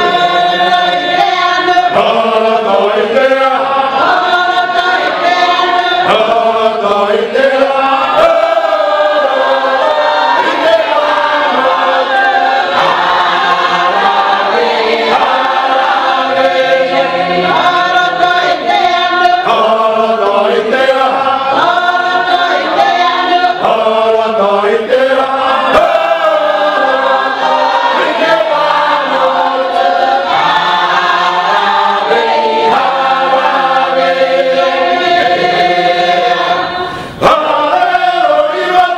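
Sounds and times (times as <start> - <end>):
group singing in harmony: 0.0 - 38.9.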